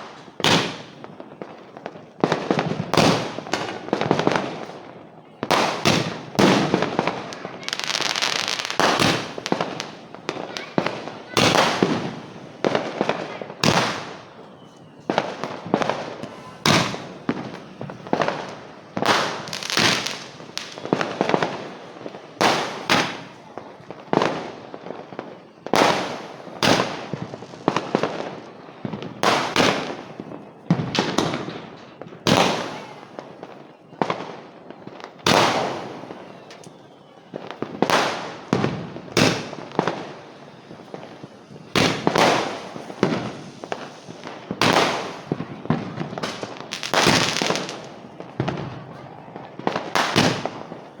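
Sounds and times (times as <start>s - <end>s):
fireworks loud bangs: 0.0s - 51.0s.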